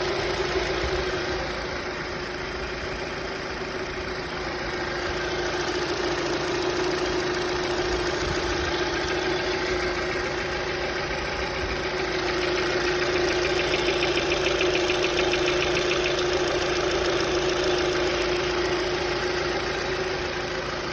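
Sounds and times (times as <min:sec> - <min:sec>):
car engine idling: 0:00.0 - 0:20.9
engine lifters ticking: 0:00.0 - 0:20.9.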